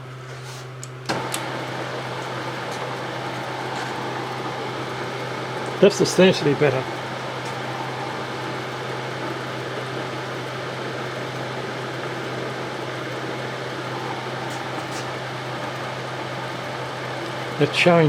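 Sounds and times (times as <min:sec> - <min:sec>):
grinder motor humming: 0:01.1 - 0:18.0.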